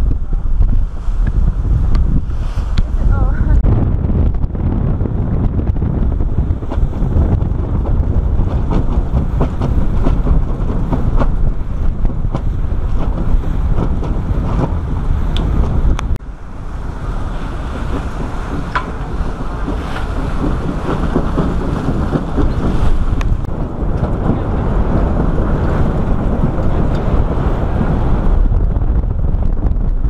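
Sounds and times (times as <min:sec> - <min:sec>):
rushing water: 0:00.0 - 0:30.0
wind buffeting microphone: 0:00.0 - 0:30.0.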